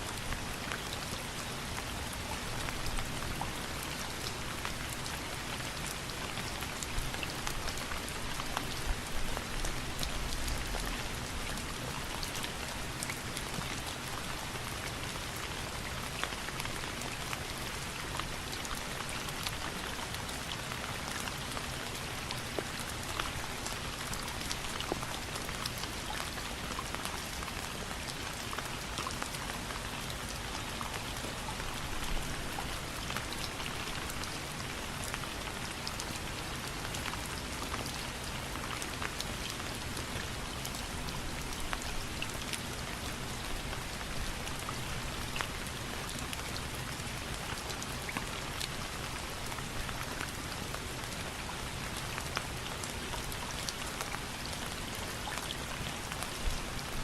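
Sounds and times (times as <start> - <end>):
steady rain with ticking drops: 0.0 - 57.0.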